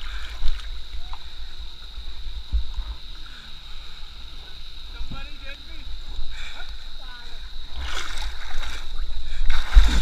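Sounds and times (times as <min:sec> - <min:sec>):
river water moving: 0:00.0 - 0:02.4, 0:03.0 - 0:10.0.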